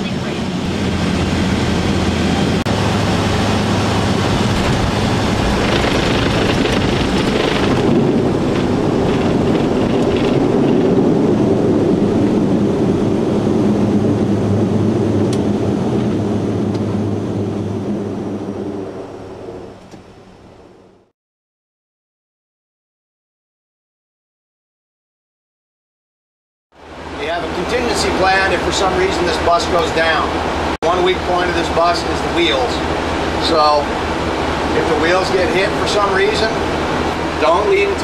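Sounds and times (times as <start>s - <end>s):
turboprop engines droning: 0.0s - 21.1s, 26.8s - 38.0s.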